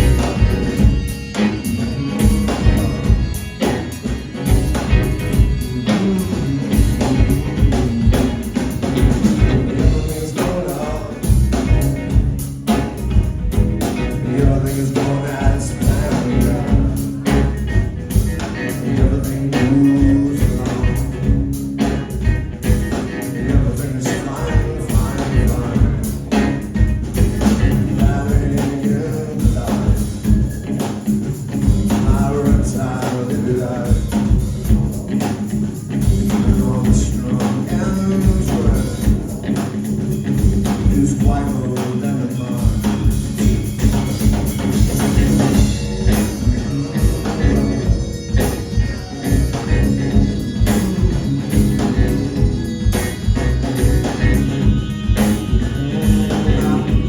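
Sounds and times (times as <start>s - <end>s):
bass: 0.0s - 57.0s
drums steady beat: 0.0s - 57.0s
guitar: 0.0s - 57.0s.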